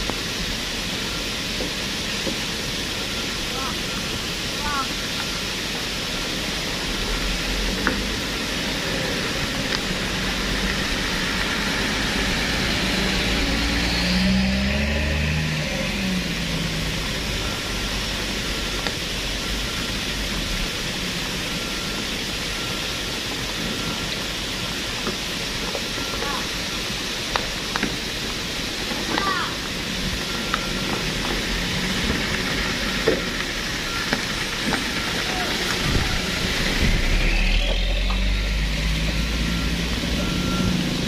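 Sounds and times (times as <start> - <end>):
diesel truck engine running: 0.0 - 41.0
heavy rain: 0.0 - 41.0.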